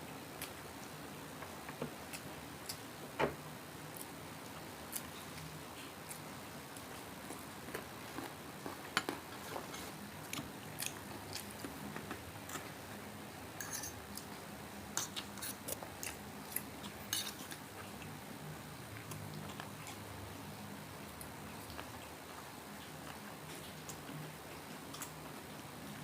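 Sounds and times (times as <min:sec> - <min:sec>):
chewing and crunching: 0:03.9 - 0:12.8, 0:13.6 - 0:26.0.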